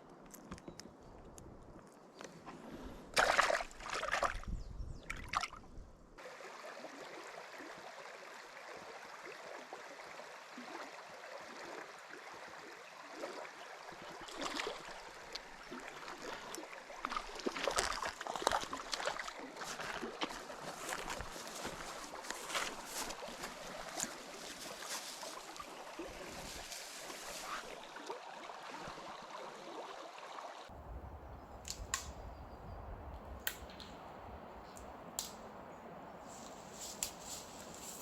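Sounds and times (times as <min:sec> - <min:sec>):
small stream running: 0:02.2 - 0:32.4, 0:33.4 - 0:38.0.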